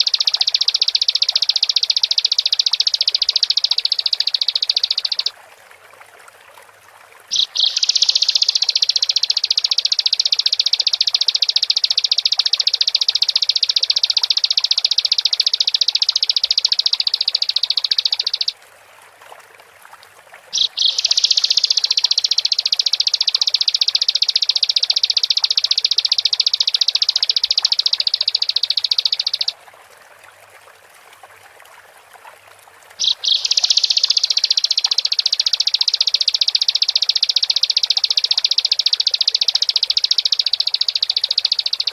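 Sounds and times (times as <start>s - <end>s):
bird high-pitched trill: 0.0s - 5.3s, 7.3s - 18.5s, 20.6s - 29.6s, 33.0s - 41.9s.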